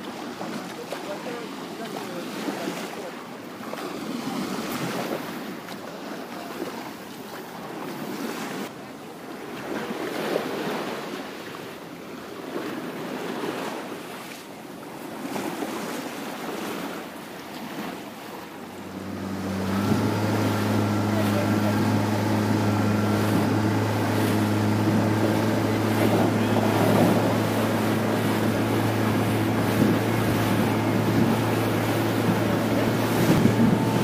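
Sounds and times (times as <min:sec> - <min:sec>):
small waves breaking on beach: 0:00.0 - 0:34.0.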